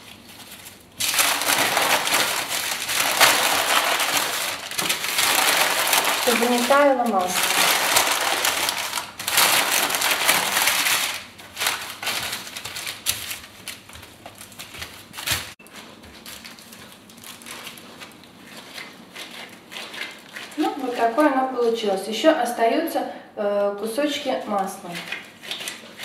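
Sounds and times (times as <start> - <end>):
paper crinkling and crackling: 0.0 - 21.9, 24.3 - 26.0.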